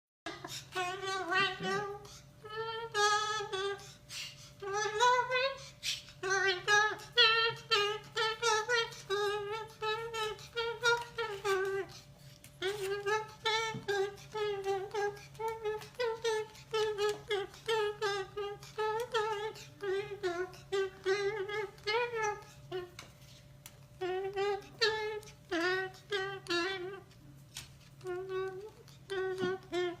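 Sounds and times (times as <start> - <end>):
parrot singing: 0.3 - 27.3, 28.0 - 30.0.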